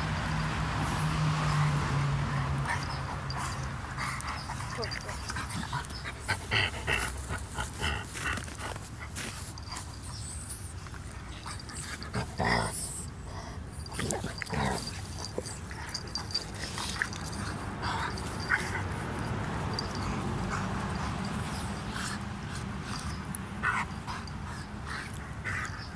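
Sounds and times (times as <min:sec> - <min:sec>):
dogs vocalizing while playing: 0:00.0 - 0:25.9.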